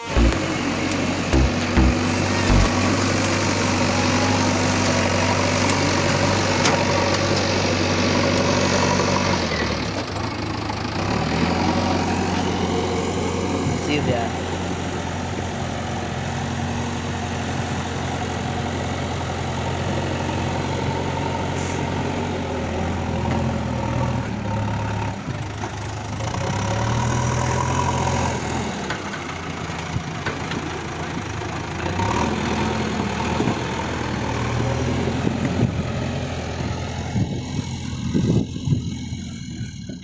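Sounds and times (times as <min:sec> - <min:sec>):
diesel engines running: 0:00.0 - 0:40.0.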